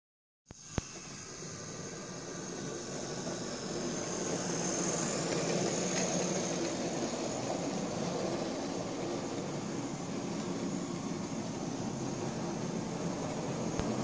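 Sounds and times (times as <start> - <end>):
model train motor whirring: 0.5 - 14.0
wheels running on track: 0.5 - 14.0.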